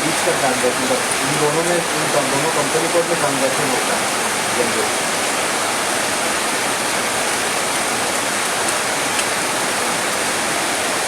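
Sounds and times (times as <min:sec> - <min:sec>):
dense rainfall hiss: 0:00.0 - 0:11.0.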